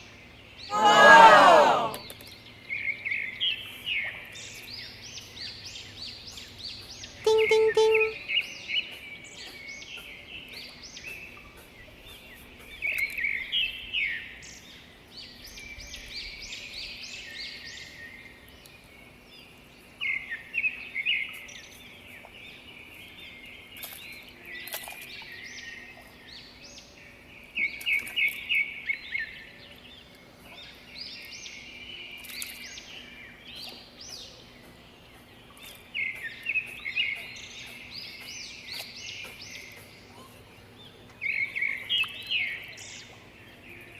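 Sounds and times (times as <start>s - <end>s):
birds chirping and singing: 2.0s - 43.9s.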